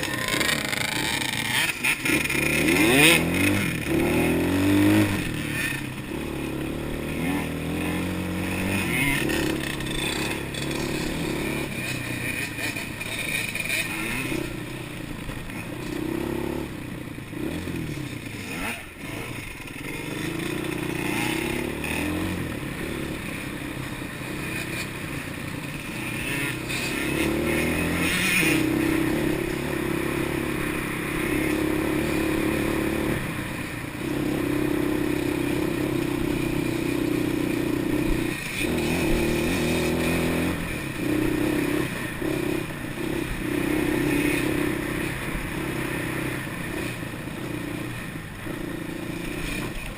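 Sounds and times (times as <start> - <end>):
quad bike engine revving: 0.0 - 49.9.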